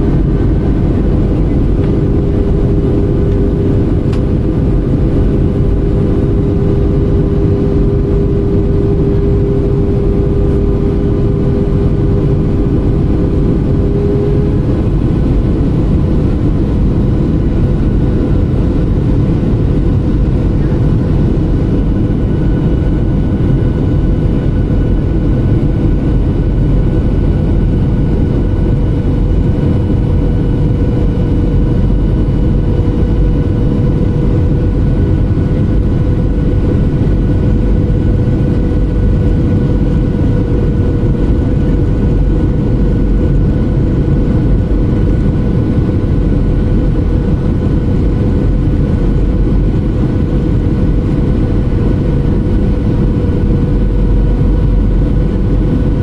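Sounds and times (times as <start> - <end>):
constant hum note: 0.0 - 56.0
jet engines and airflow rushing: 0.0 - 56.0.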